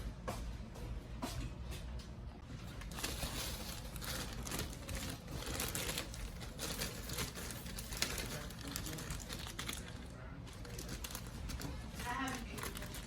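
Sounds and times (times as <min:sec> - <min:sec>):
crinkling and rustling handling: 0:02.4 - 0:13.0.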